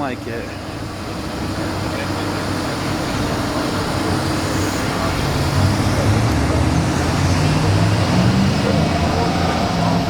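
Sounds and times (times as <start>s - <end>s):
car engine running: 0.0s - 10.0s
crowd noise: 0.0s - 10.0s
traffic noise: 0.0s - 10.0s.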